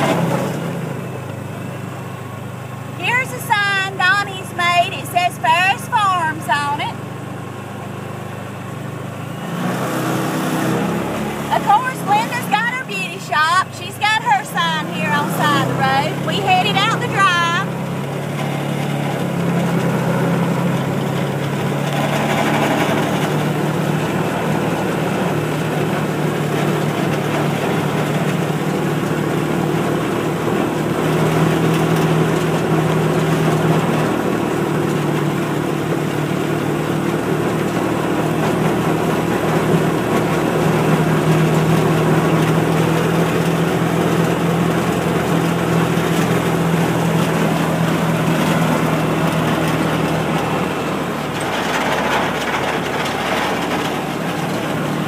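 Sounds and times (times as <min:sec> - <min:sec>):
small vehicle engine running: 0:00.0 - 0:55.0.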